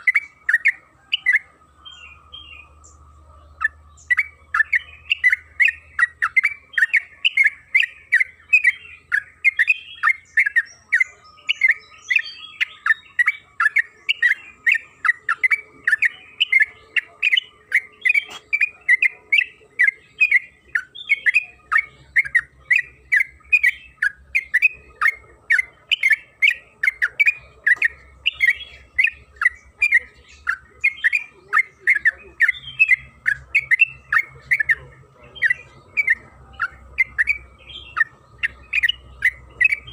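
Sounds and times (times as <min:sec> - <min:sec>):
bird singing quick chirps: 0:00.0 - 0:39.9
faint steady high tone: 0:00.0 - 0:39.9.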